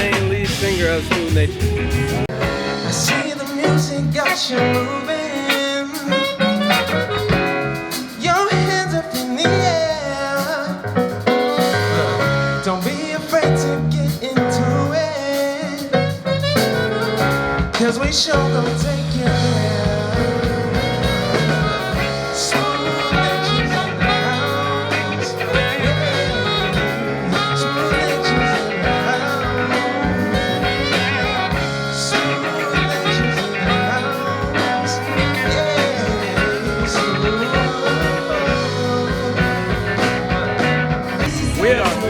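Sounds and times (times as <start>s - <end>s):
blues band music: 0.0s - 42.0s
guitar: 0.0s - 42.0s
person singing: 0.0s - 42.0s.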